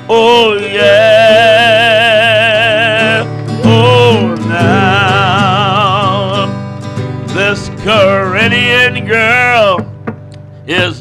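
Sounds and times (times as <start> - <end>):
man singing wordless notes: 0.0 - 6.6, 7.2 - 9.9, 10.7 - 11.0
strummed acoustic guitar: 0.0 - 11.0.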